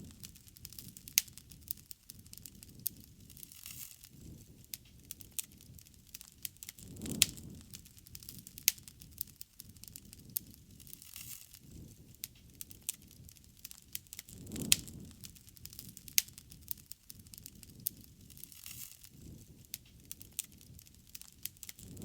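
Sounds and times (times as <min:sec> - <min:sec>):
rushing of flames: 0:00.0 - 0:22.0
wood fire crackling: 0:00.0 - 0:22.0.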